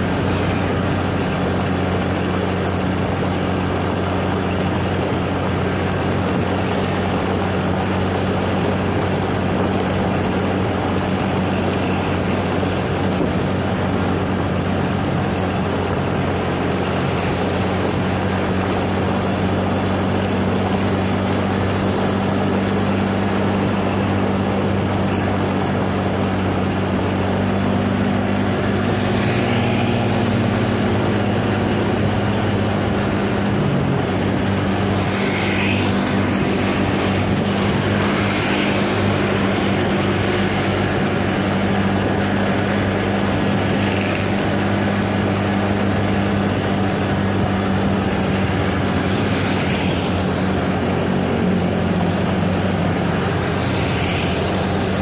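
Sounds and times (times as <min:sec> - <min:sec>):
road and wind noise: 0:00.0 - 0:55.0
vehicle engine cruising: 0:00.0 - 0:55.0.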